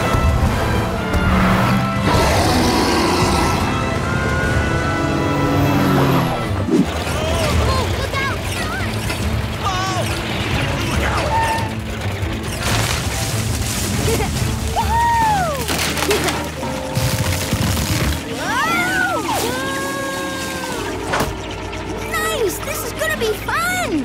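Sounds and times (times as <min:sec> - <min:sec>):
cartoon background music: 0:00.0 - 0:24.0.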